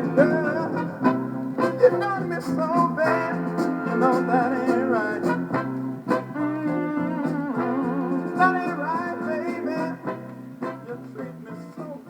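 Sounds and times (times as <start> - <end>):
soul band playing: 0.0 - 12.0.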